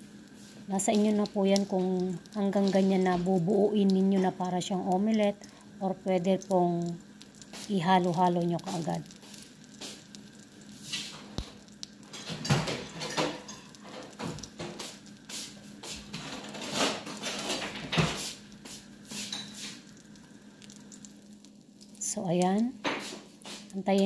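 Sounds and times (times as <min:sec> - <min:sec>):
egg sizzling in hot oil: 0:00.0 - 0:24.0.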